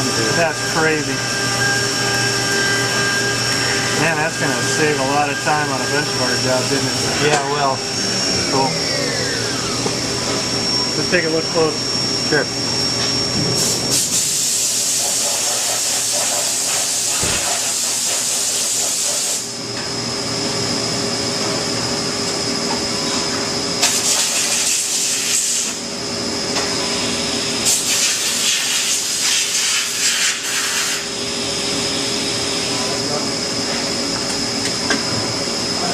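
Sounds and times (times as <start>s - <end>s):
milling machine whine: 0.0s - 35.9s.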